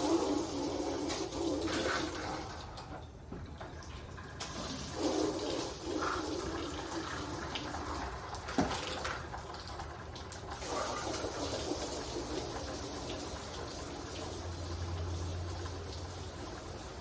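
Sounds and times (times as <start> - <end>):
hose water spraying on windows: 0.0 - 3.0, 4.4 - 17.0.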